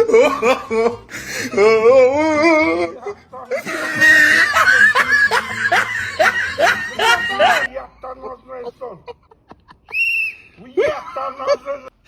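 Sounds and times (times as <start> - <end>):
person laughing loudly: 0.0 - 7.7, 8.7 - 11.9.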